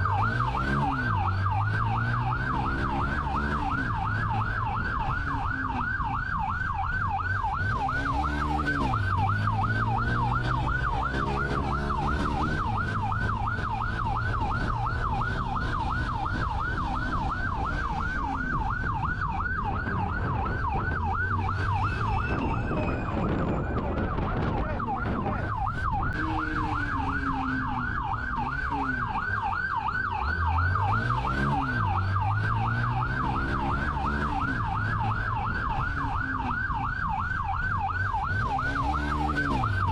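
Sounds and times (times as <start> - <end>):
car engine revving: 0.0 - 6.2, 7.4 - 25.2, 25.8 - 37.0, 38.0 - 39.9
police siren yelping: 0.0 - 39.9.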